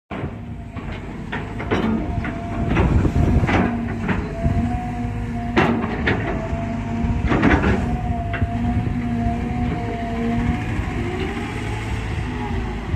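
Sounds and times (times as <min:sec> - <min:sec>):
excavator engine and hydraulic drone: 0:00.1 - 0:12.9.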